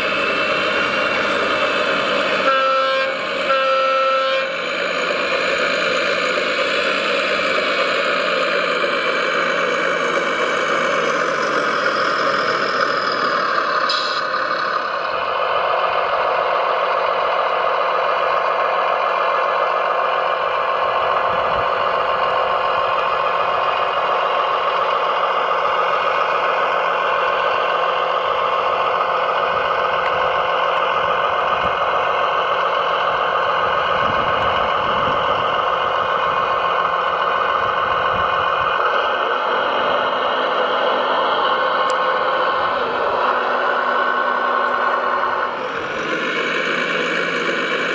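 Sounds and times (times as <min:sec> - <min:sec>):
model excavator mechanical whine: 0:00.0 - 0:47.9.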